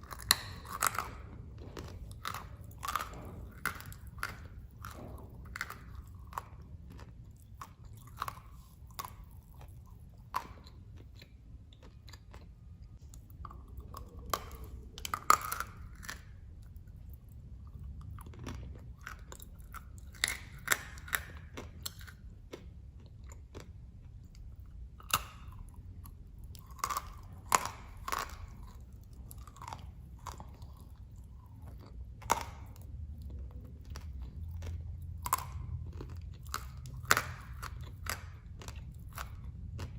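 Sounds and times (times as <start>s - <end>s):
clay being bitten and chewed: 0.0s - 39.9s.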